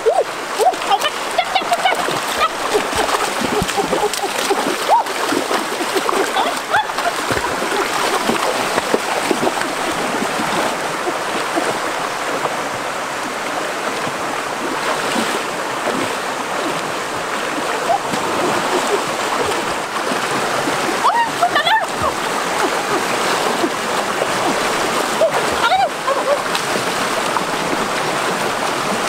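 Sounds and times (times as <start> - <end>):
water sloshing and splashing: 0.0 - 29.0.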